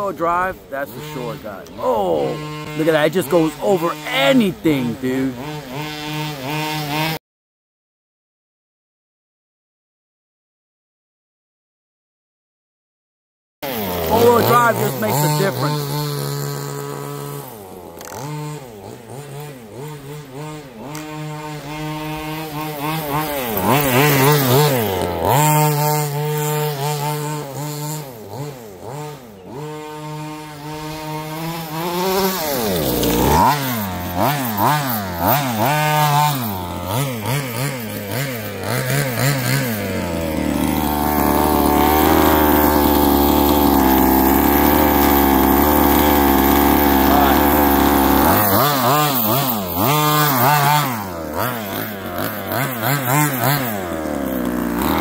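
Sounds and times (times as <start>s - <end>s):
small two-stroke engine revving: 0.0s - 7.2s, 13.6s - 55.0s.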